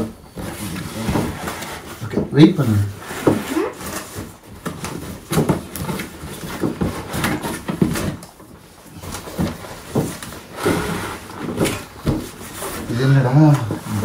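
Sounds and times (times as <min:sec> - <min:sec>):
cardboard packaging being handled: 0:00.0 - 0:14.0.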